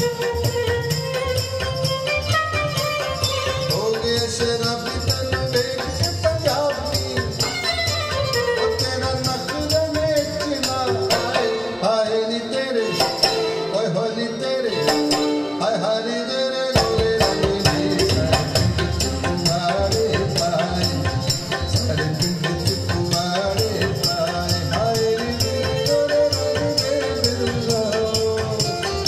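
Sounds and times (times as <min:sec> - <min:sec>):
fast percussion beat: 0:00.0 - 0:11.8, 0:12.8 - 0:13.7, 0:14.8 - 0:15.4, 0:16.8 - 0:29.0
music over loudspeakers: 0:00.0 - 0:29.0.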